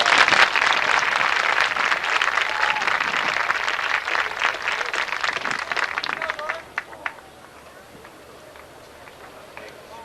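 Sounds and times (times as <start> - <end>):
audience clapping: 0.0 - 9.8.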